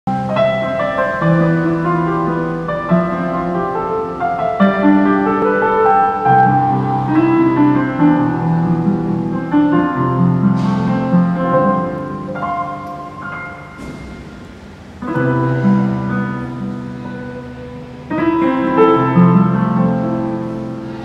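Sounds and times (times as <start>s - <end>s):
piano playing slow chords: 0.1s - 21.0s.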